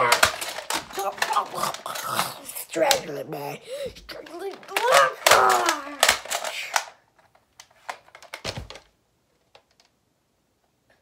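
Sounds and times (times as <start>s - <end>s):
toys clicking and knocking: 0.0s - 9.9s.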